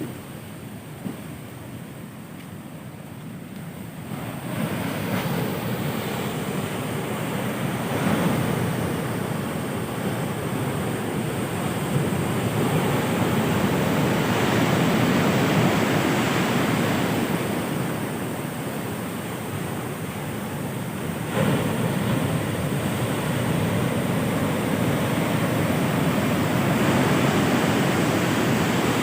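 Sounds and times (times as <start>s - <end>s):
heavy ocean surf breaking: 0.0s - 29.0s.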